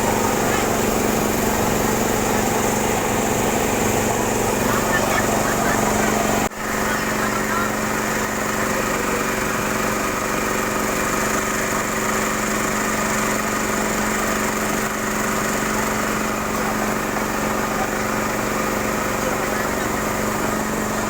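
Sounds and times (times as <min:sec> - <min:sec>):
small boat engine running: 0:00.0 - 0:21.0.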